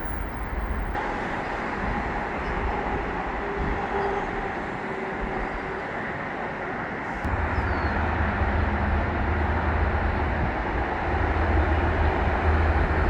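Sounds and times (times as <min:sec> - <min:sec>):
train rolling past: 0:00.0 - 0:13.0
wheels rushing on rails: 0:00.0 - 0:13.0.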